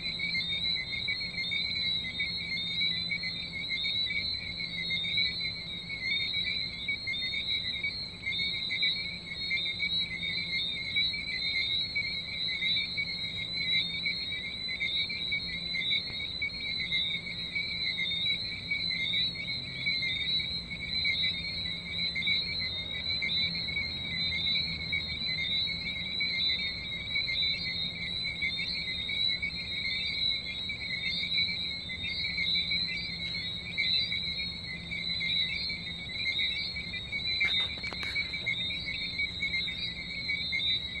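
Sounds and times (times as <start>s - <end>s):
tree frogs chirping: 0.0s - 41.0s.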